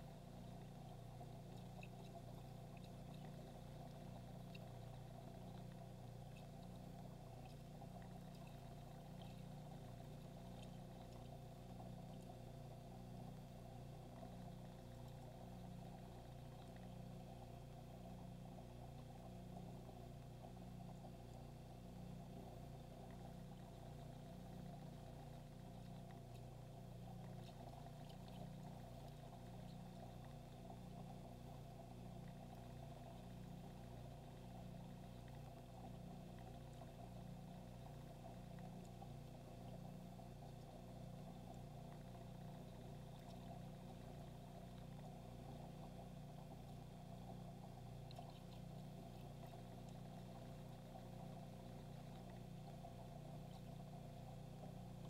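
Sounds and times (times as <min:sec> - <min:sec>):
aquarium pump humming: 0:00.0 - 0:55.0
faint ticks: 0:00.0 - 0:55.0.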